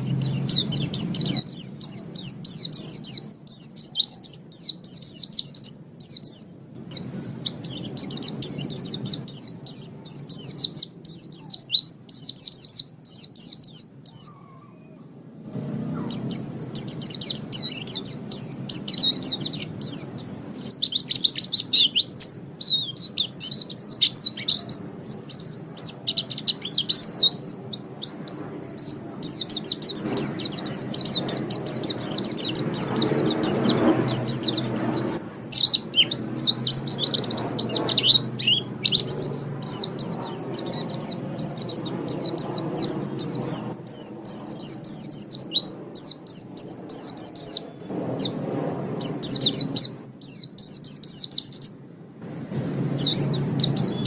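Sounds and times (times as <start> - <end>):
bird singing rapid chattering song: 0.0 - 54.0.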